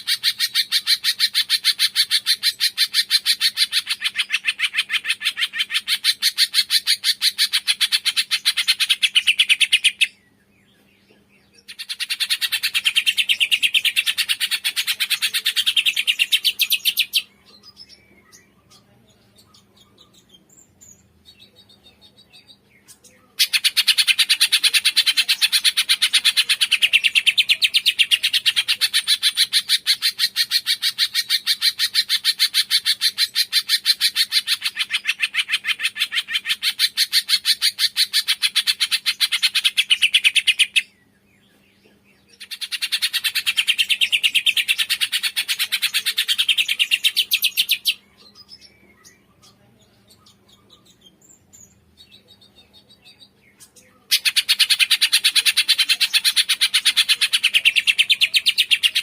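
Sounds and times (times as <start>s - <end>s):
bird calling in harsh chatter: 0.0s - 10.2s, 11.6s - 18.8s, 21.3s - 41.0s, 42.3s - 49.6s, 52.0s - 59.0s
soft bird twittering: 0.0s - 59.0s.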